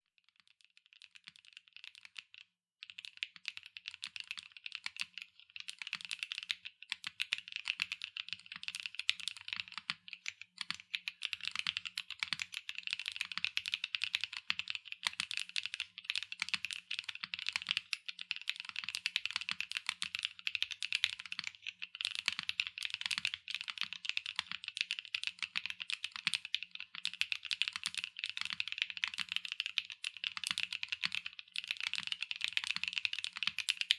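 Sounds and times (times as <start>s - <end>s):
mechanical keyboard typing: 0.9s - 33.9s.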